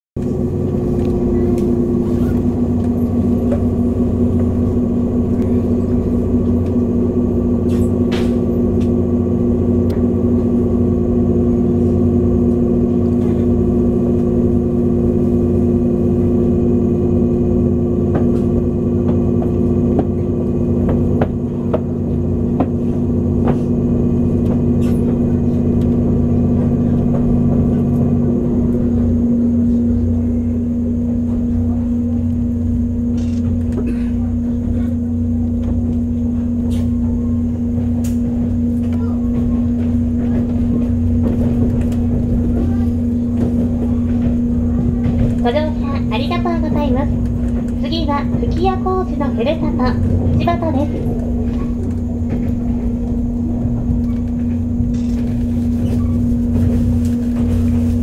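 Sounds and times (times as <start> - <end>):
train cabin rumble and hum: 0.0 - 58.0.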